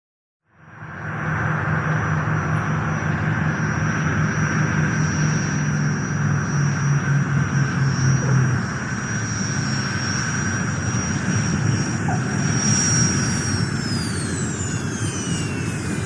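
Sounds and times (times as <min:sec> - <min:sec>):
airplane engine droning: 0:00.5 - 0:16.0
high engine whine: 0:00.5 - 0:16.0.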